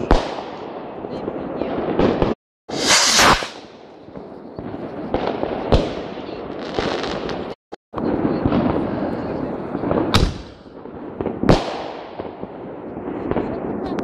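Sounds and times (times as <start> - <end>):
fireworks crackling and banging: 0.0 - 14.0.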